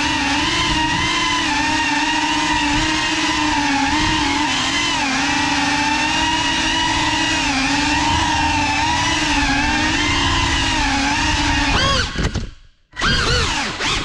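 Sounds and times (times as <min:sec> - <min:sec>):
drone propellers whining: 0:00.0 - 0:14.0.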